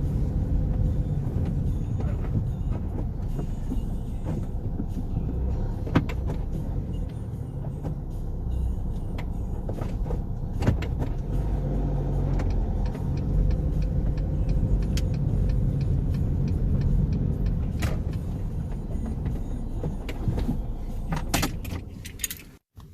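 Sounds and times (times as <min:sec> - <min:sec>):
car engine and road rumble: 0:00.0 - 0:22.9.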